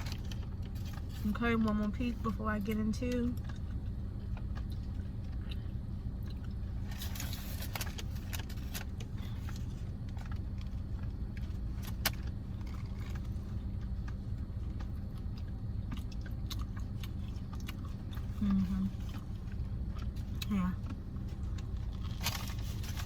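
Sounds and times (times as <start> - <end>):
car engine idling hum: 0.0 - 23.0.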